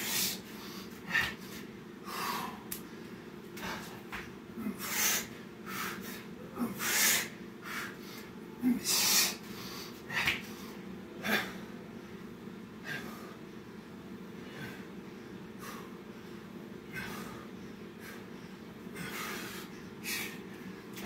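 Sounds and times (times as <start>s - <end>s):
man breathing hard: 0.0s - 21.0s
steady low hum: 0.0s - 21.0s.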